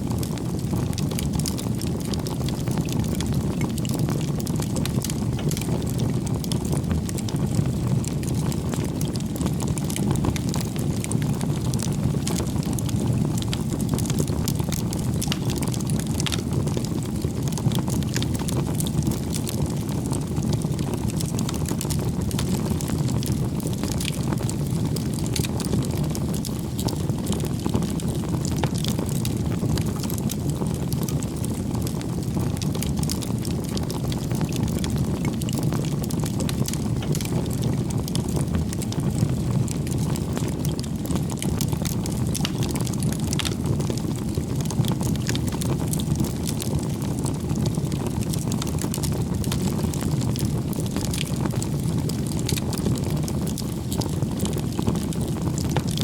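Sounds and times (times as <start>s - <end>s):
low rush of flames: 0.0s - 56.0s
wood crackling and popping: 0.0s - 56.0s.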